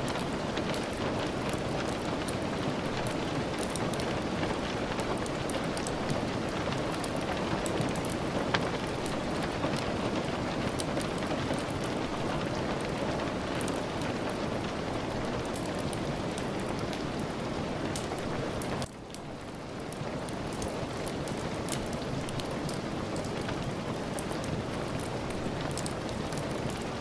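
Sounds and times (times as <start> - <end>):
steady rain hiss: 0.0 - 27.0
wood fire crackles: 0.0 - 27.0.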